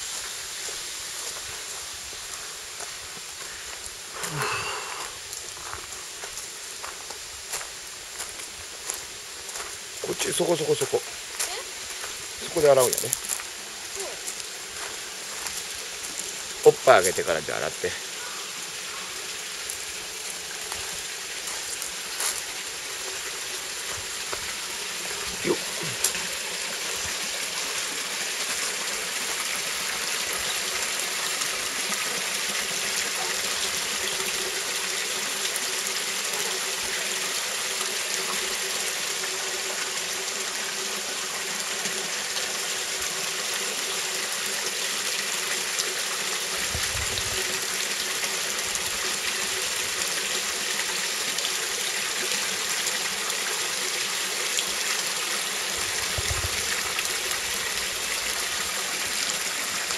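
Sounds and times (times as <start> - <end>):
water pouring into a rocky pool: 11.8 - 59.9.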